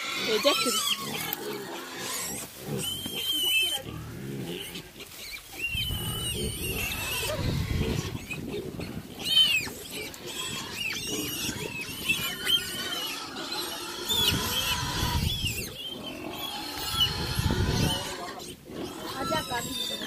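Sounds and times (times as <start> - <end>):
pigs grunting: 0.0 - 20.0
pigs squealing: 0.0 - 20.0.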